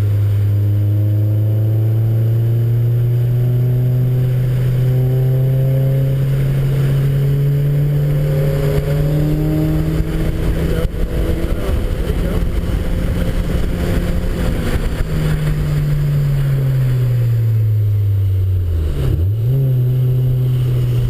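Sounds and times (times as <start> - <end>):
car engine from inside cabin: 0.0 - 21.0.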